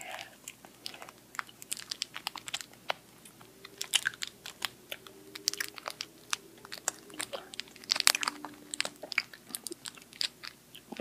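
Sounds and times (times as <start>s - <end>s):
wet mouth clicks and smacks: 0.4s - 10.9s
plastic pouch crinkling: 0.6s - 10.8s.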